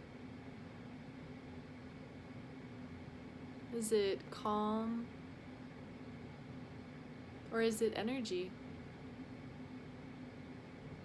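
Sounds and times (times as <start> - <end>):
faint steady hum: 0.0 - 11.0
low steady hiss: 0.0 - 11.0.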